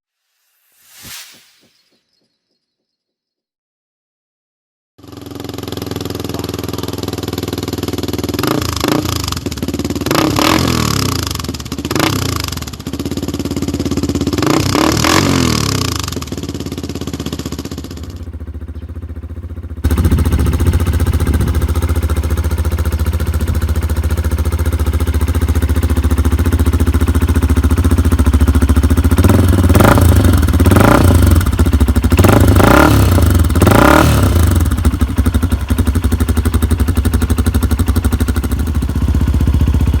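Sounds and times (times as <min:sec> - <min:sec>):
motorcycle engine idling and revving: 0:05.0 - 0:40.0.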